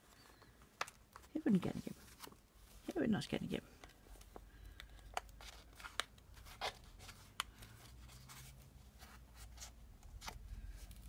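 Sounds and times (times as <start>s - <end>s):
paper pages rustling: 0.0s - 3.0s, 3.8s - 11.0s.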